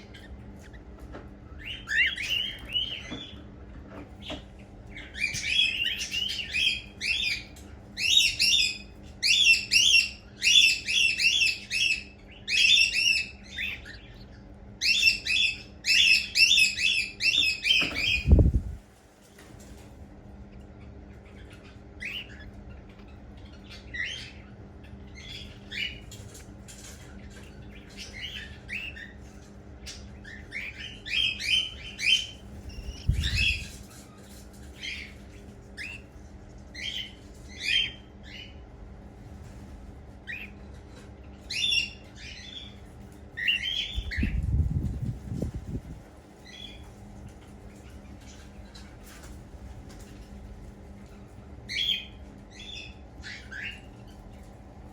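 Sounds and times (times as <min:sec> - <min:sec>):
bird chicks chirping: 0:00.0 - 0:54.9
low steady hum: 0:00.0 - 0:54.9.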